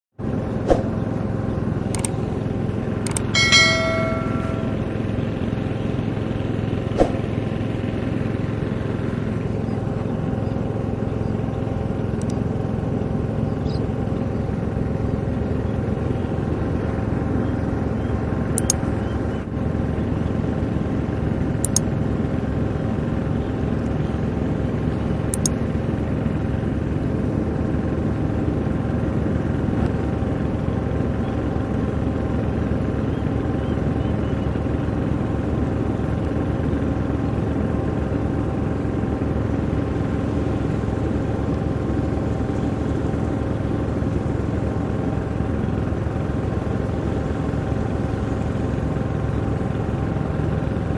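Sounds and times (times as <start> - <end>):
combine harvester engine droning: 0.2 - 50.9.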